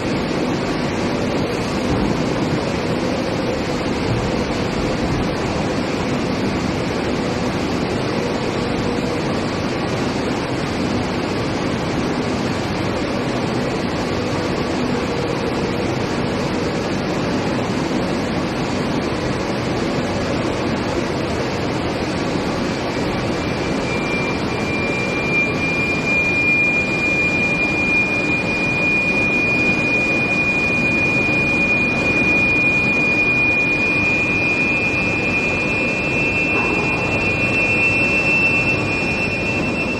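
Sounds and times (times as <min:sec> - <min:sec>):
high steady whine: 0:00.0 - 0:39.9
industrial machinery noise: 0:00.0 - 0:39.9.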